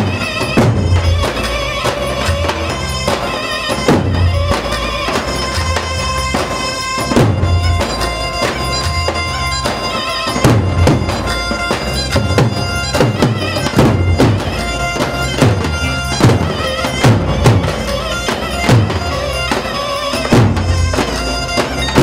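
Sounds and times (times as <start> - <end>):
reedy wind instrument melody: 0.0 - 22.0
steady drum beat: 0.0 - 22.0.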